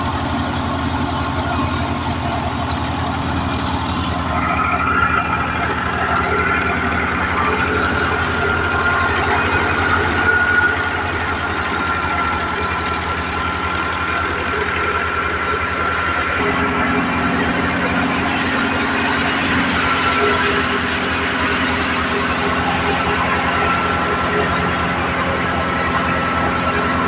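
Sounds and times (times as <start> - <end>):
thin high whine: 0.0 - 27.0
tractor diesel engine running: 0.0 - 27.0.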